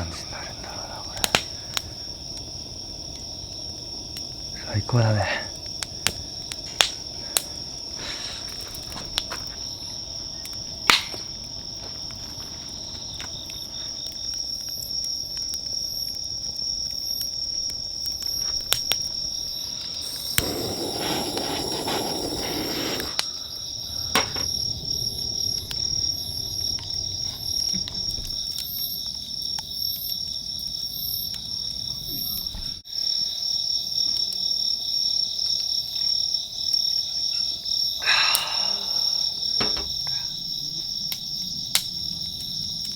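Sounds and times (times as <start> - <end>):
campfire crackling: 0.0 - 42.9
crickets trilling: 0.0 - 42.9.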